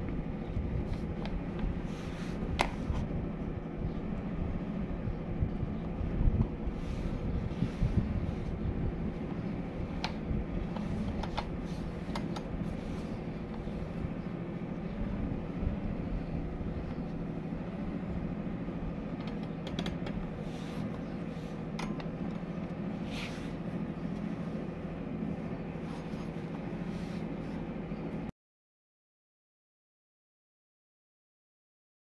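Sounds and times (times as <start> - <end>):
fan heater whirring: 0.0 - 28.3.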